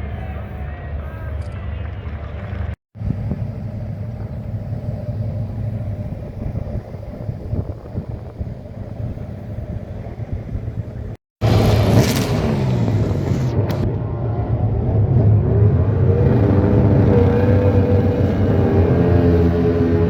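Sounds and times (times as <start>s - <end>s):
low vehicle rumble: 0.7s - 20.0s.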